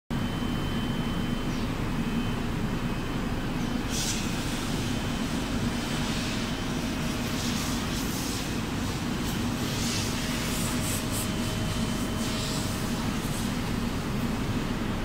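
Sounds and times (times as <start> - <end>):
machine drone: 0.2 - 15.0.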